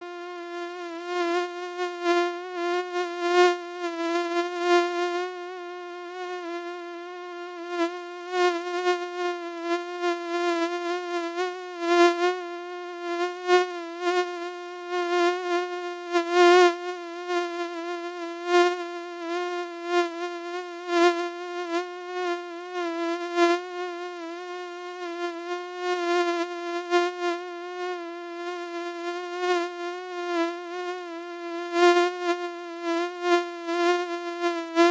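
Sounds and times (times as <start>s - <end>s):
mosquito buzzing: 0.0s - 34.9s.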